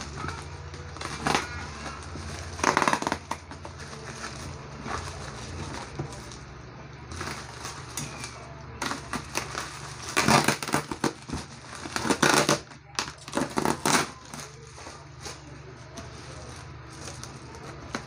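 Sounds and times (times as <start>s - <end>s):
packing tape ripping: 0.0s - 6.4s, 7.1s - 18.0s
plastic parcel crinkling: 0.0s - 18.0s.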